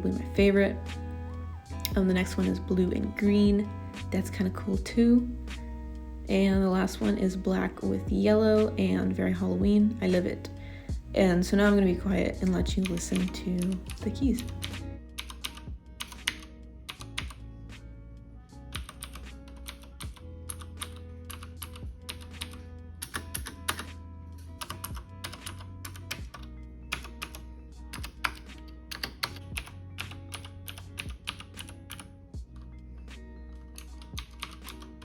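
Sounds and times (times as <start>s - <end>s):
background music: 0.0s - 35.0s.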